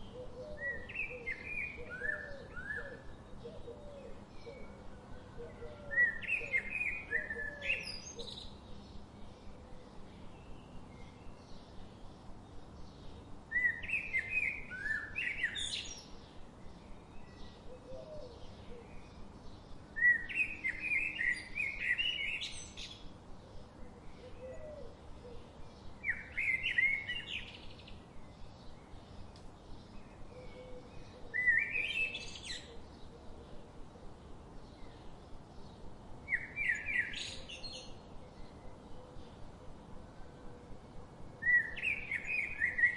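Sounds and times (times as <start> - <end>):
faint chirping of other birds: 0.0 - 42.9
songbird singing chirps: 0.0 - 42.9.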